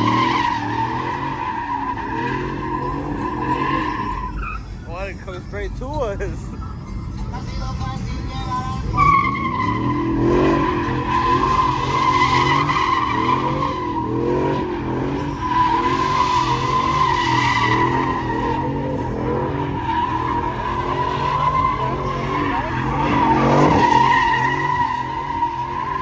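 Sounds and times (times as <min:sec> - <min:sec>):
tyre squeal: 0:00.0 - 0:05.0, 0:07.2 - 0:26.0
truck engine revving: 0:00.0 - 0:26.0.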